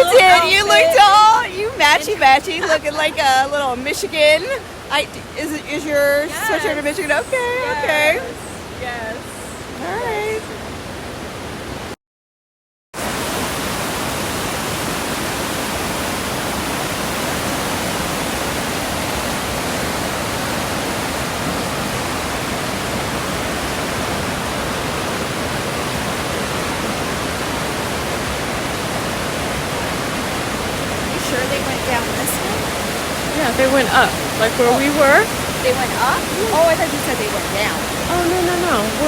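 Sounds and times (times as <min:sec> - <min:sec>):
waterfall rushing: 0:00.0 - 0:12.0, 0:13.0 - 0:39.0.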